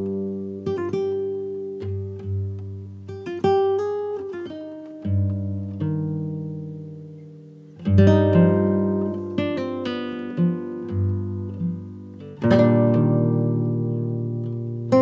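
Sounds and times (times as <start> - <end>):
strummed guitar chords: 0.0 - 15.0.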